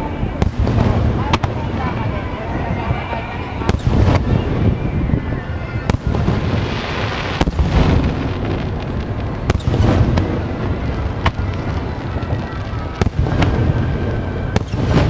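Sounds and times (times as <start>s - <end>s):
fireworks booming: 0.0s - 15.0s
crackling hiss: 0.1s - 15.0s
sharp firework cracks: 0.4s - 2.4s, 3.6s - 4.9s, 5.6s - 15.0s.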